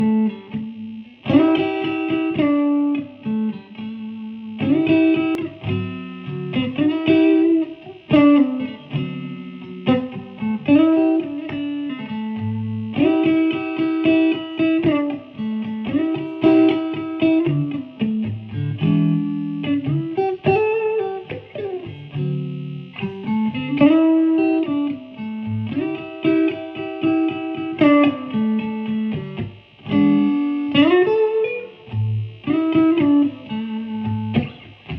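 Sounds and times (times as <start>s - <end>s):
clean electric guitar: 0.0s - 34.9s.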